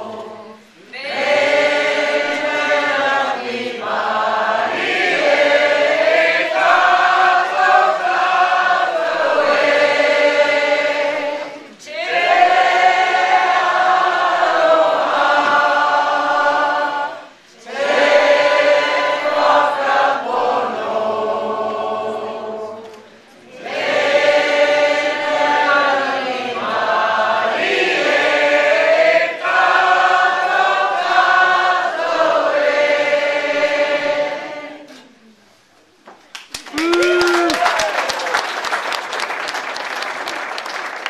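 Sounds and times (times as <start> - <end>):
group singing unaccompanied: 0.0 - 35.1.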